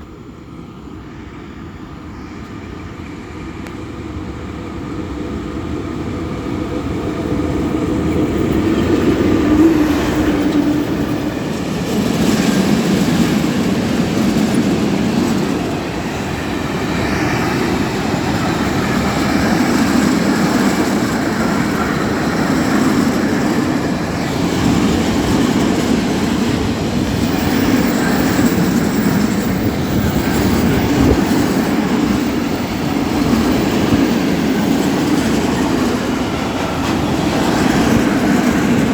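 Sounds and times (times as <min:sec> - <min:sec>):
train wheels rumbling on rails: 0:01.1 - 0:38.9.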